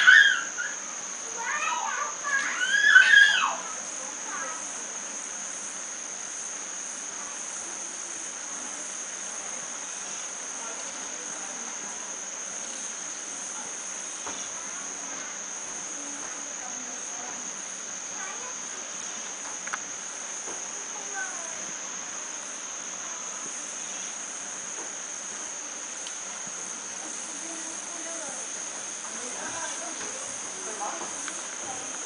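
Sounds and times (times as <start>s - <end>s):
high-pitched insect trill: 0.0s - 32.0s.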